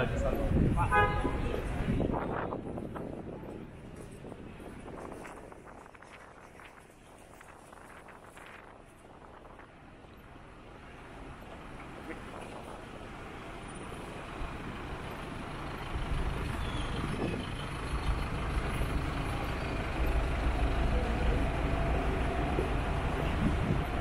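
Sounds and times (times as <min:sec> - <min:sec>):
city street traffic: 0:00.0 - 0:24.0
heavy vehicle engine rumble: 0:00.0 - 0:24.0.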